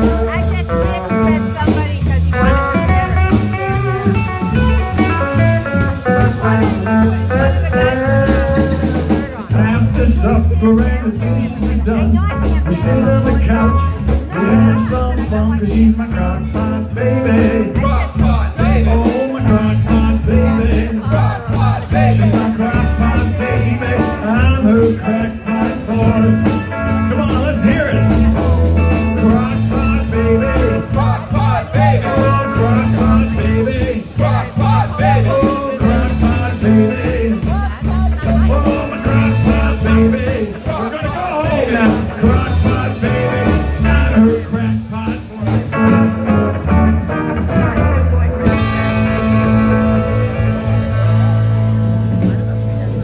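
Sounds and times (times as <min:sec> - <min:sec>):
live blues-rock band: 0:00.0 - 0:53.0
wavering lead guitar line: 0:00.0 - 0:53.0.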